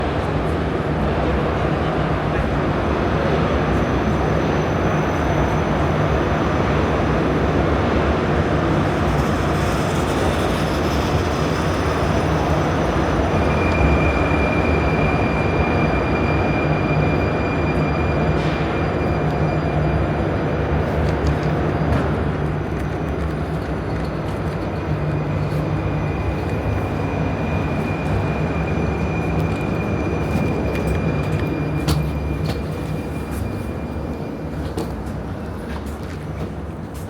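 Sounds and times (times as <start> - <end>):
metro train rumbling: 0.0 - 37.0.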